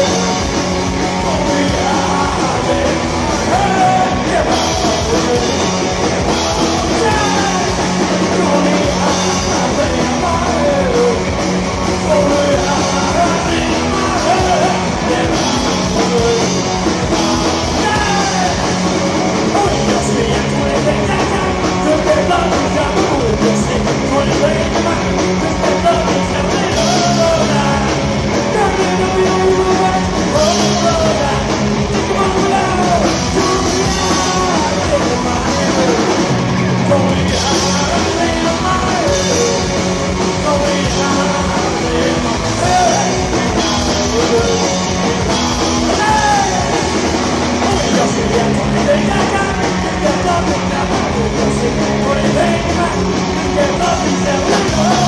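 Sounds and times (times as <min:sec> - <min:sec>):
bass guitar: 0:00.0 - 0:55.0
distorted electric guitars: 0:00.0 - 0:55.0
drums: 0:00.0 - 0:55.0
sung and shouted vocals: 0:00.0 - 0:55.0.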